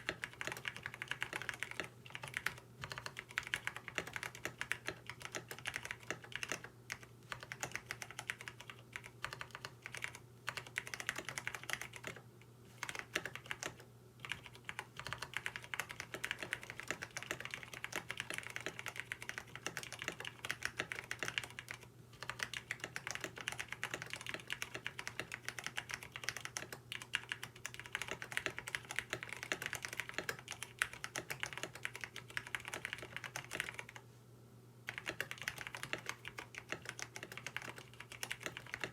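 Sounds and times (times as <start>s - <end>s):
mechanical keyboard typing: 0.0s - 12.2s, 12.8s - 34.0s, 34.9s - 38.9s.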